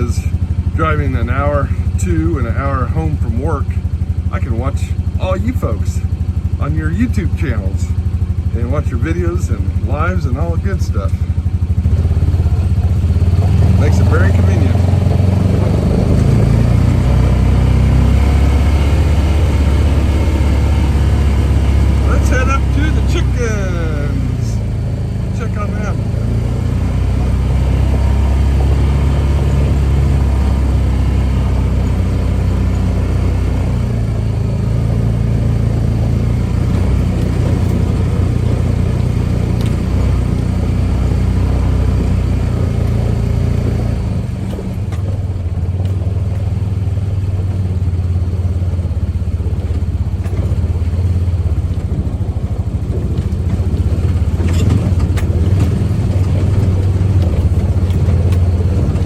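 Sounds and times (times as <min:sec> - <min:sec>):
rattles: 0:00.0 - 0:43.8, 0:49.4 - 0:59.0
utility vehicle engine running: 0:00.0 - 0:59.0.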